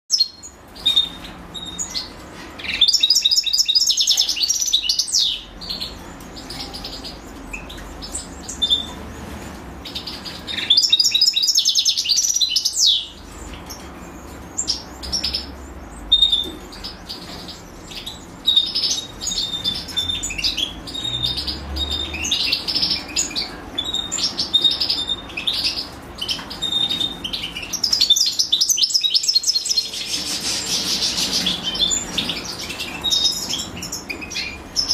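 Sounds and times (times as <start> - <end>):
nestlings begging chirps: 0.1 - 9.0, 9.8 - 34.9.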